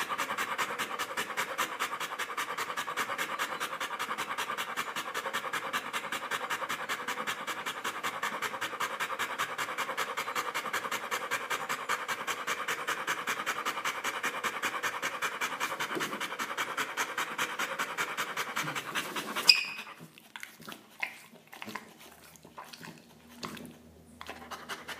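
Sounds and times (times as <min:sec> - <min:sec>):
dog panting: 0:00.0 - 0:24.9.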